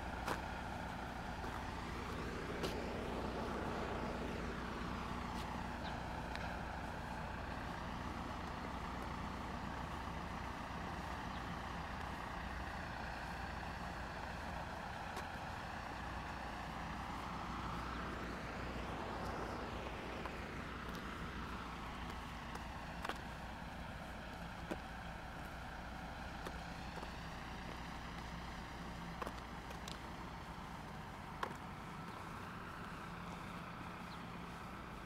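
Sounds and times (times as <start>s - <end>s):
truck engine running: 0.0s - 35.0s.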